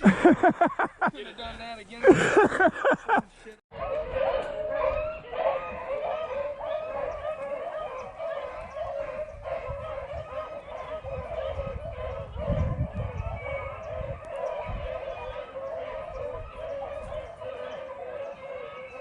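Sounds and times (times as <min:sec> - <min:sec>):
hounds baying: 0:03.7 - 0:19.0.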